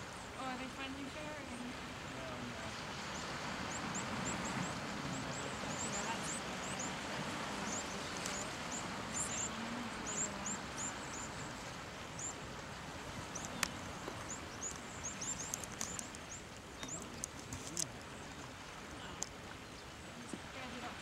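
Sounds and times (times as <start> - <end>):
sea waves breaking over rocks: 0.0 - 21.0.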